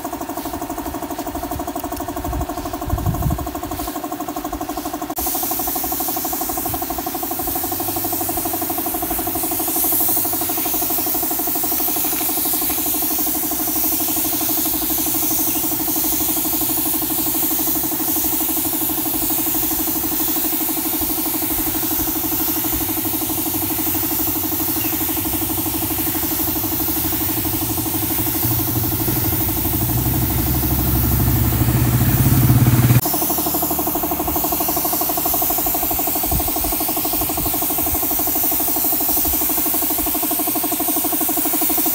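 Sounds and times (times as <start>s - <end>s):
air compressor running: 0.0s - 41.9s
spray gun air hiss: 0.0s - 41.9s.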